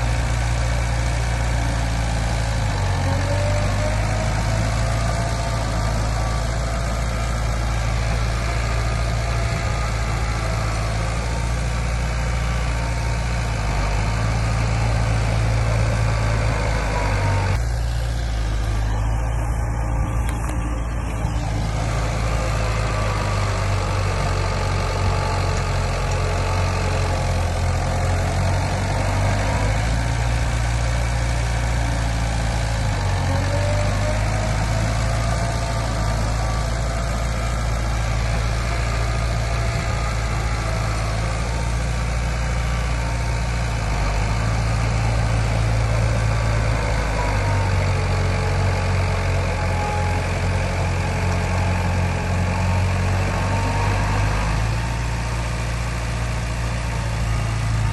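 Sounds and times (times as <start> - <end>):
heavy machinery diesel engine: 0.0 - 57.9.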